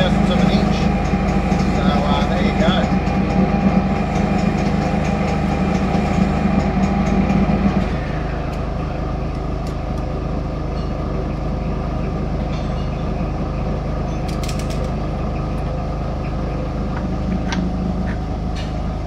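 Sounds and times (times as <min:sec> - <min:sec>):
workshop machinery humming: 0:00.0 - 0:19.0.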